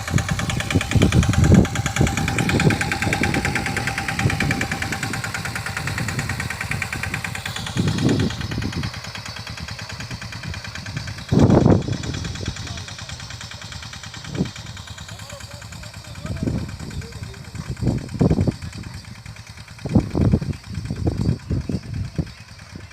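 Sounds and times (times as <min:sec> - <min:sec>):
tractor diesel engine knocking: 0:00.0 - 0:22.9.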